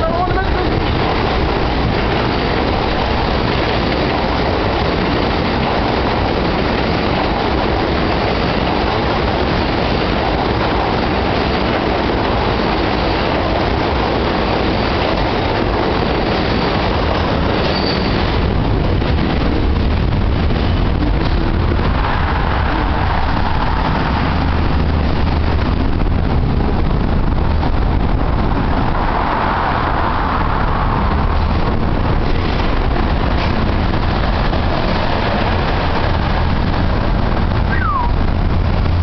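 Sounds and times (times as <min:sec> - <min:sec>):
subway train crossing steel bridge: 0:00.0 - 0:39.0.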